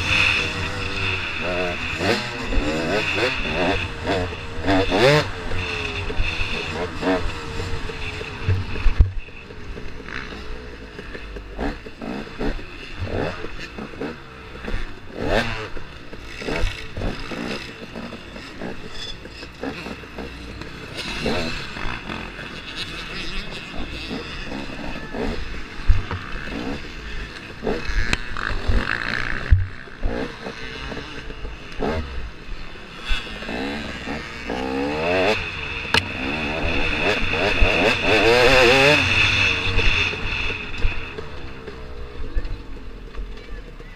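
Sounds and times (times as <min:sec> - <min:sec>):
two-stroke engine running: 0:00.0 - 0:43.9.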